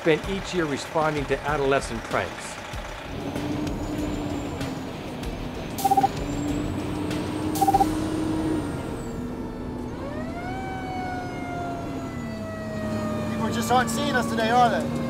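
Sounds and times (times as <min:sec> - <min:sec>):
fire truck engine drone: 0:00.0 - 0:15.0.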